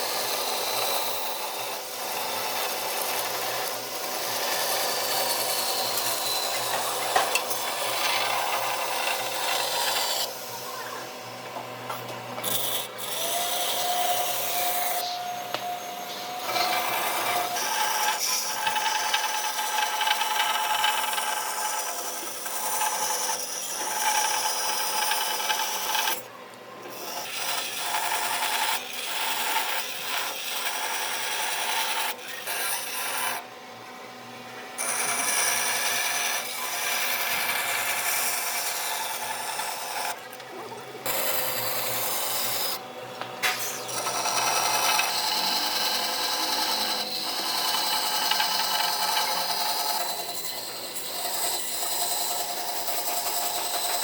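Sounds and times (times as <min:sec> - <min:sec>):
power tool grinding wood: 0:00.0 - 0:11.1, 0:12.4 - 0:26.2, 0:26.9 - 0:33.4, 0:34.8 - 0:54.0
faint motor whine: 0:00.0 - 0:54.0.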